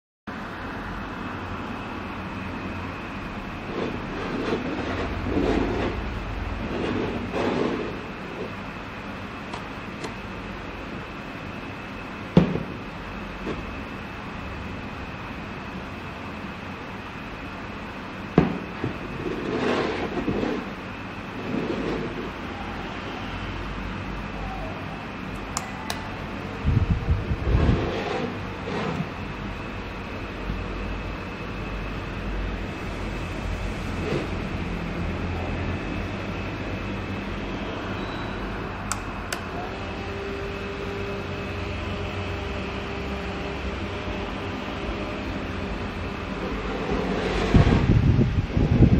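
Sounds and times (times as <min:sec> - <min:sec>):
small fan running: 0:00.3 - 0:48.9.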